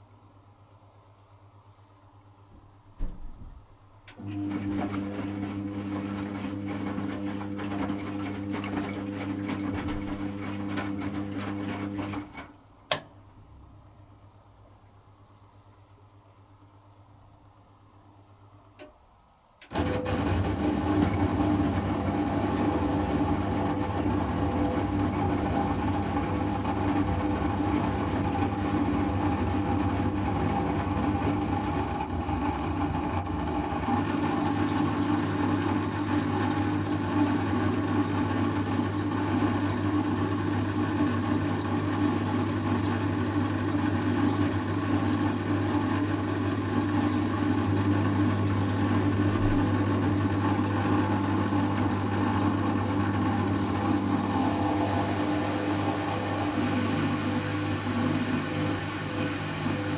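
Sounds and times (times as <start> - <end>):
washing machine spinning: 3.0 - 14.4, 19.4 - 59.9.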